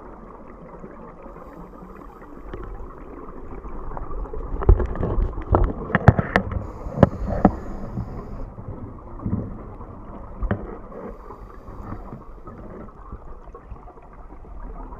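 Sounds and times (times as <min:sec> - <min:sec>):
muffled underwater rumble and hiss: 0:00.0 - 0:14.9.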